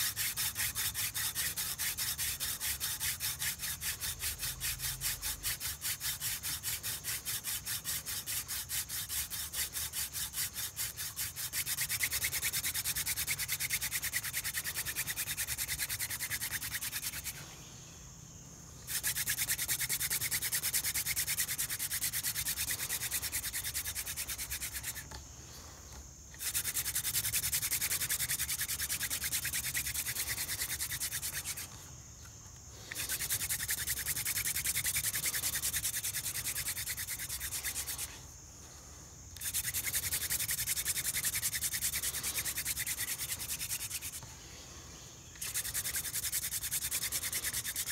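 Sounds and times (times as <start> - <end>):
wooden spindle rubbing on board: 0.0 - 17.4, 18.9 - 25.2, 26.3 - 31.7, 32.9 - 38.2, 39.4 - 44.2, 45.4 - 47.9.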